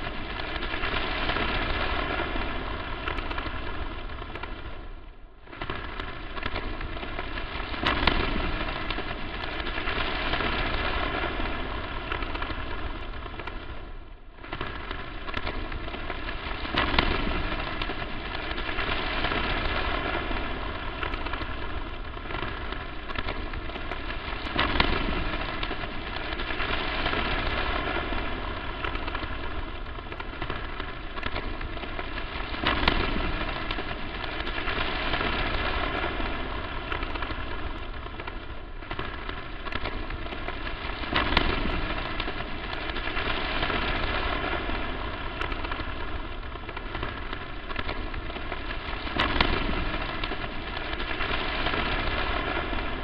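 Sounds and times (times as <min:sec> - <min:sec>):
crackling static hiss: 0:00.0 - 0:53.0.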